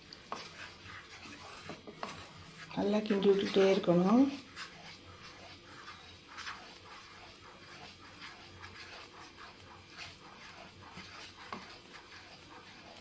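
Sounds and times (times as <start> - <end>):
wooden spatula scraping a pan: 0.0 - 13.0.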